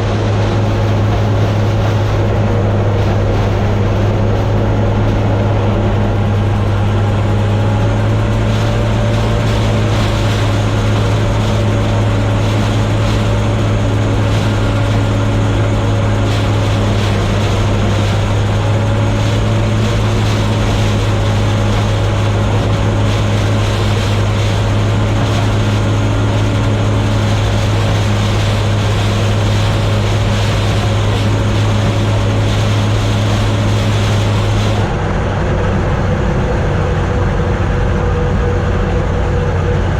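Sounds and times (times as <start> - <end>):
combine harvester machinery drone: 0.0 - 39.9.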